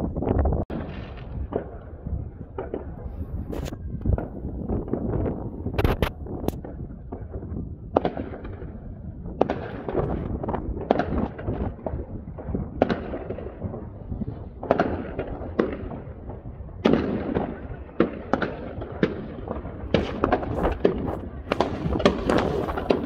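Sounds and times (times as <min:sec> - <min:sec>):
distant fireworks crackling: 0:00.0 - 0:23.0
fireworks bangs: 0:00.7 - 0:23.0.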